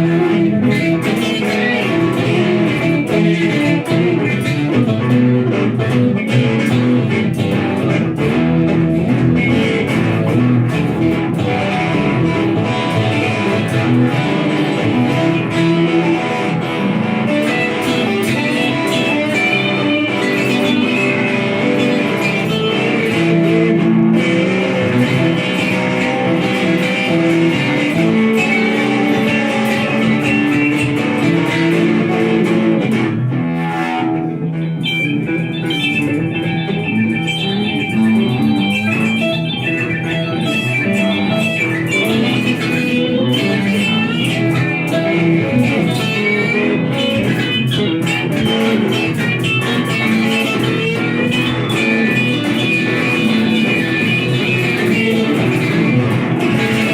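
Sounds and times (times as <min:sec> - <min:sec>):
electric guitar lead lines: 0:00.0 - 0:56.9
strummed guitar chords: 0:00.0 - 0:56.9.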